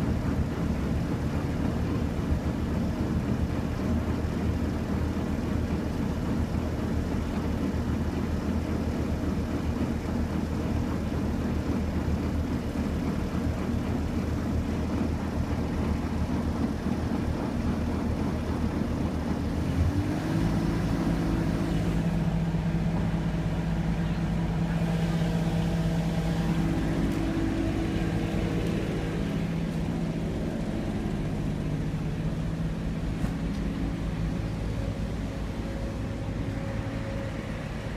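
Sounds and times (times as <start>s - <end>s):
street traffic noise: 0.0s - 37.9s
truck engine idling: 0.0s - 37.9s.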